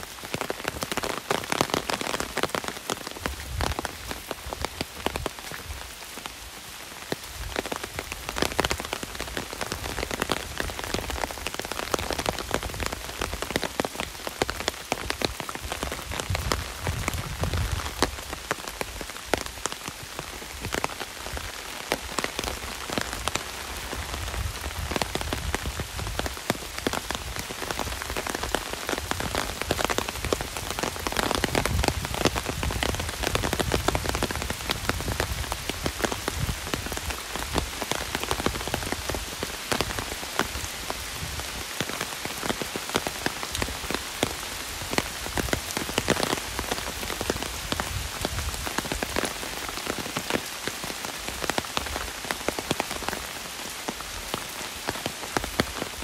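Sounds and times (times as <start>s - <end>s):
heavy rain on umbrella: 0.0s - 56.0s.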